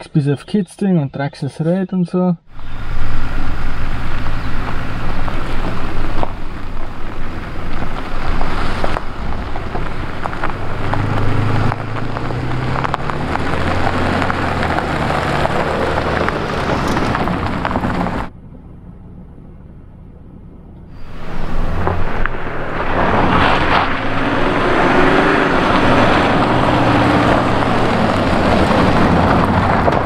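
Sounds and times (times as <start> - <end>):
car engine hum: 2.5 - 30.0
tyres crunching on gravel: 2.6 - 18.3, 21.0 - 30.0.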